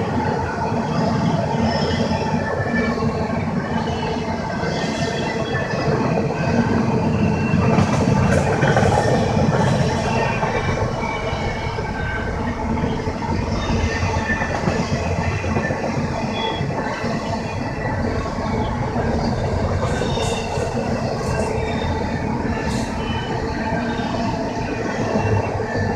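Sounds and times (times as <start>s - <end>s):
freight train wheels rumbling: 0.0s - 25.9s
train clanks: 0.0s - 25.9s.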